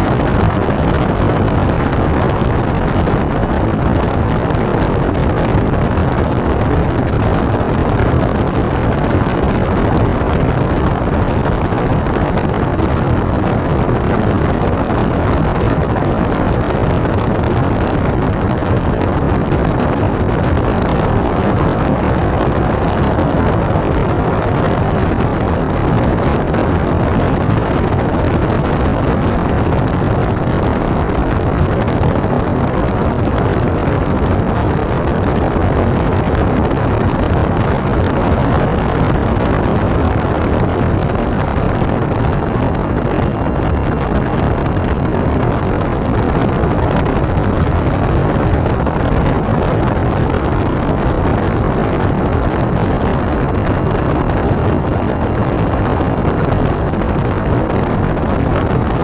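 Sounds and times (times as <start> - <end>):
airflow rushing over microphone: 0.0 - 59.0
steady high whine: 0.0 - 59.0.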